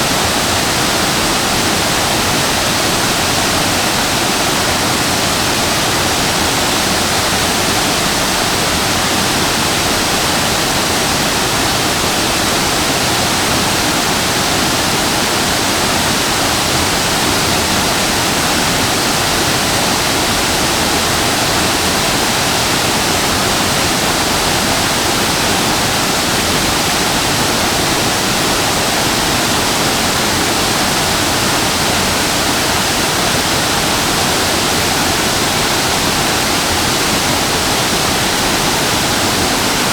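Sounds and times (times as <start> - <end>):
waterfall crashing: 0.0 - 39.9.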